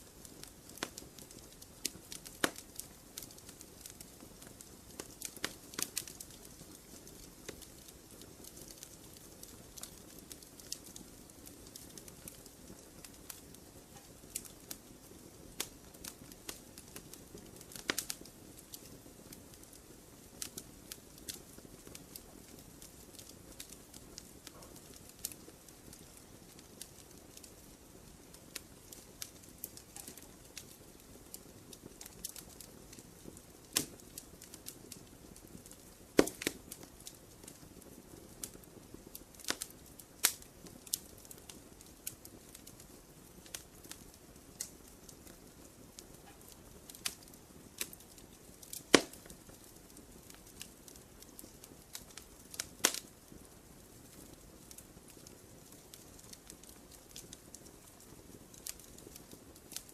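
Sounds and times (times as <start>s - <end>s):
campfire crackling and popping: 0.0s - 59.9s
faint steady hiss: 0.0s - 59.9s.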